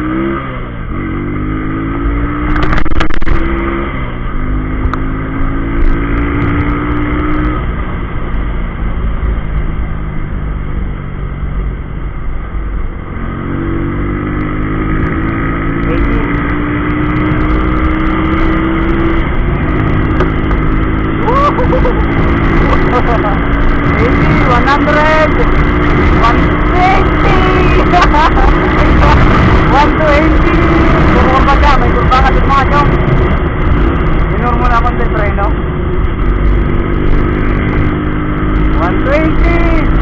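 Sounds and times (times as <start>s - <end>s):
motorcycle accelerating: 0.0s - 40.0s
wind rushing over microphone: 0.0s - 40.0s.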